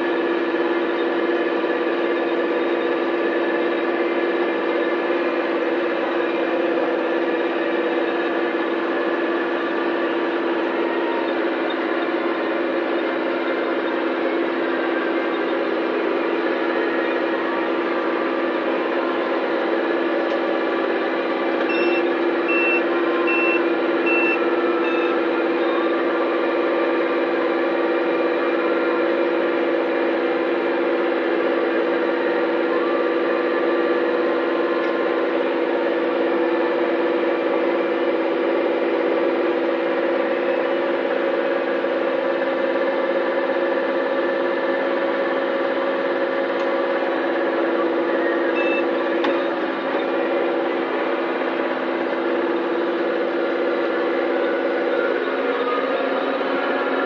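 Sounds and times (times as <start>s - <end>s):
round baler working: 0.0s - 57.0s
tractor running under load: 0.0s - 57.0s.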